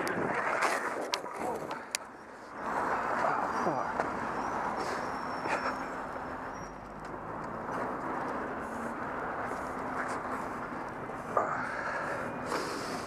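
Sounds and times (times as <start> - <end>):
road noise on wet road: 0.0 - 13.0
bus engine droning: 1.8 - 13.0.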